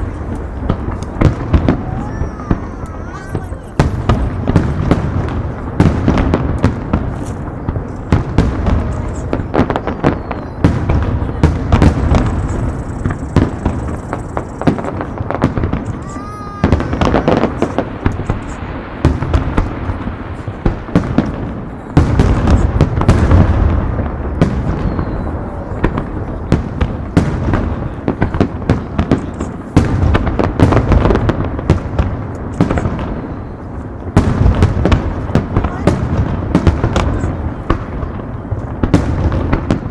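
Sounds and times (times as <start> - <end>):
fireworks booms and cracks: 0.0 - 39.9.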